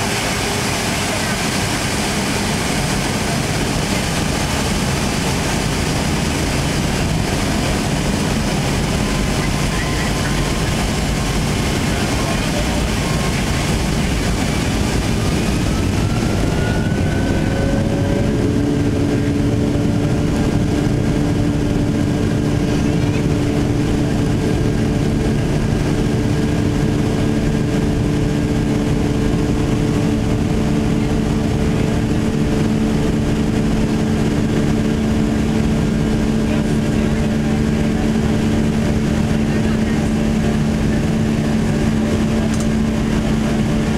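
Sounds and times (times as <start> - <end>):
jet engine rumble and whine: 0.0 - 43.9.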